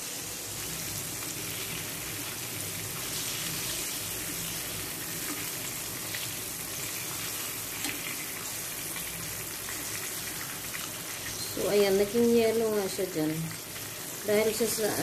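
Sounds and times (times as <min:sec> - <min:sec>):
fish sizzling in a frying pan: 0:00.0 - 0:15.0.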